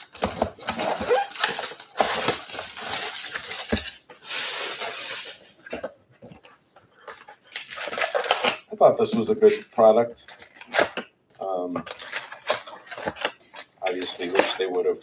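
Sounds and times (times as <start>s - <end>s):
wrapping crinkling: 0.0s - 5.9s, 7.0s - 11.0s, 11.7s - 15.0s.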